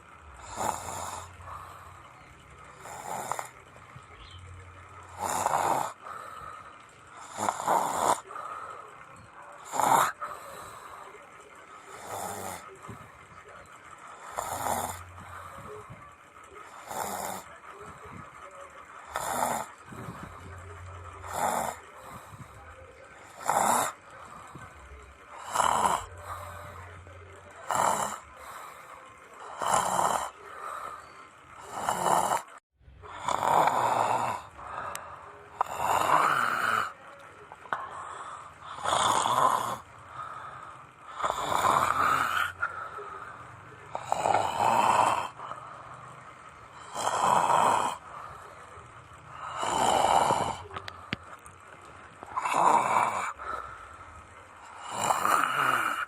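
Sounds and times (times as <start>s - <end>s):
person snoring: 0.0s - 4.0s, 5.0s - 11.2s, 11.8s - 13.0s, 14.1s - 16.0s, 16.6s - 17.6s, 19.0s - 24.7s, 25.3s - 37.0s, 37.6s - 51.4s, 52.2s - 56.0s.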